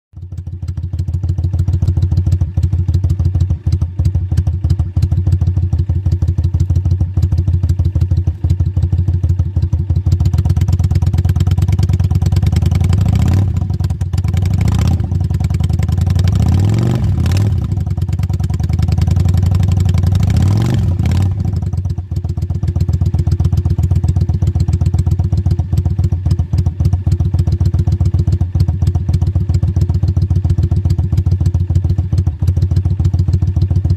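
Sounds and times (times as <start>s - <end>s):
motorcycle engine idling: 0.2s - 33.9s
motorcycle engine revving: 0.2s - 33.9s.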